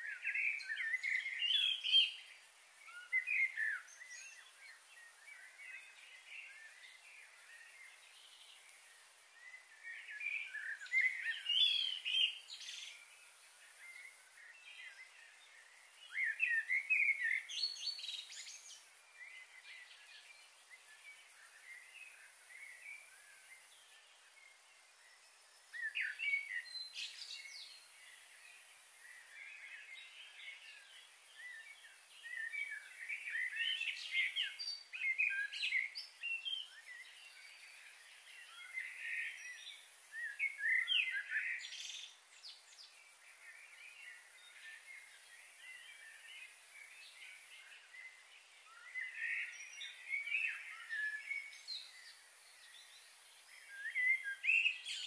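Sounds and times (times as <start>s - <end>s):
small birds chirping: 0.0s - 55.0s
steady high hiss: 0.0s - 55.0s.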